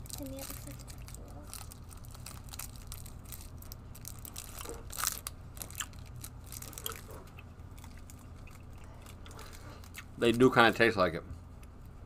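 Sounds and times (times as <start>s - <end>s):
person chewing crunchy candy: 0.0s - 10.2s.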